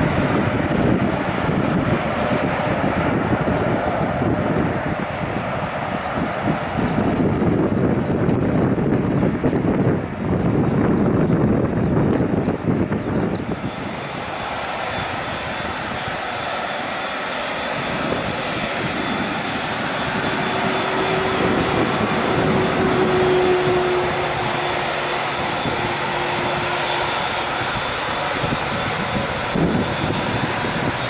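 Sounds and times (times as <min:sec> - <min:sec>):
jet engine roar with whine: 0:00.0 - 0:31.0.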